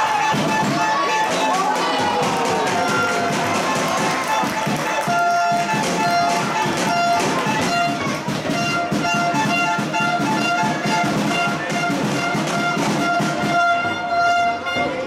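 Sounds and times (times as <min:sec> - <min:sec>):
instrumental music with brass: 0:00.0 - 0:15.0.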